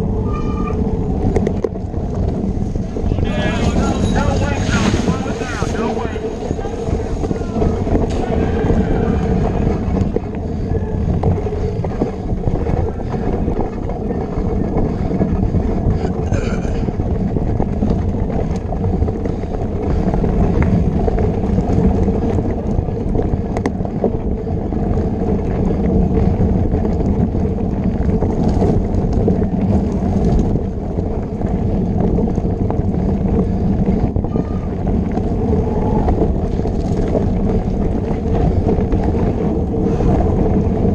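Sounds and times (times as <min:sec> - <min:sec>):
mountain bike rattling over dirt: 0:00.0 - 0:40.9
wind on microphone: 0:00.0 - 0:40.9.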